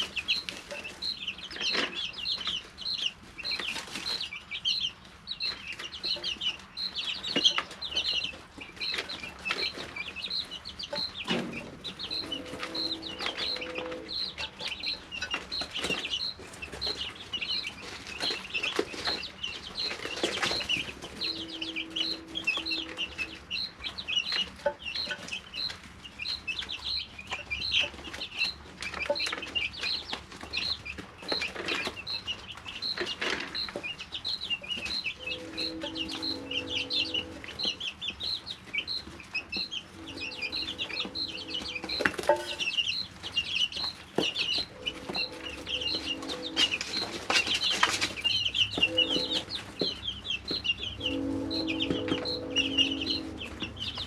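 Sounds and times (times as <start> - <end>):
chicks peeping and chirping: 0.0 - 54.0.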